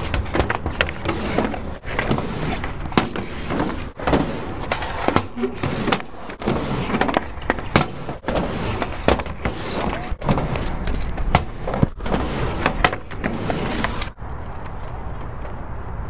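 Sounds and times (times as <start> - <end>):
skateboards rolling on asphalt: 0.0 - 16.0.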